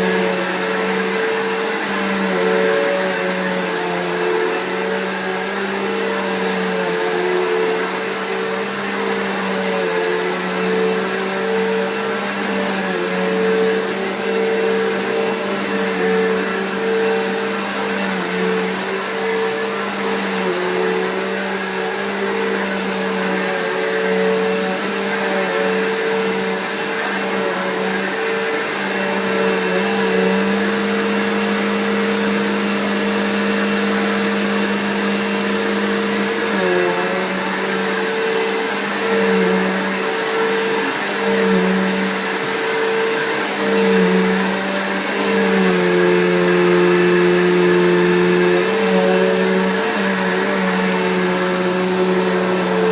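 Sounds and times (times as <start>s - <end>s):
upright vacuum cleaner running: 0.0s - 52.9s.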